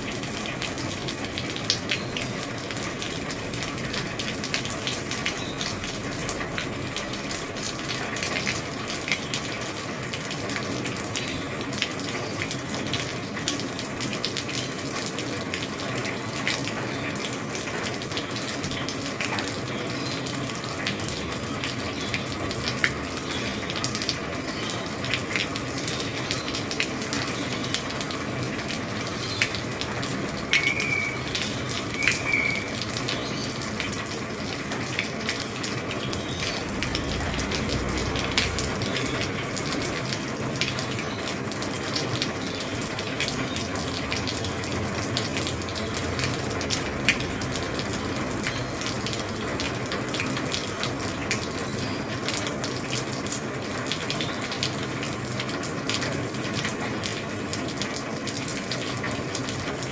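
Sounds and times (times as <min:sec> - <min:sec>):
heavy rain on a roof: 0:00.0 - 0:59.9
raindrops tapping: 0:00.0 - 0:59.9.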